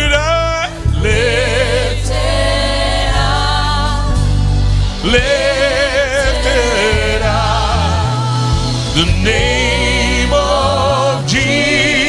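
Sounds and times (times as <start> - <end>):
keyboard chords and bass: 0.0 - 12.0.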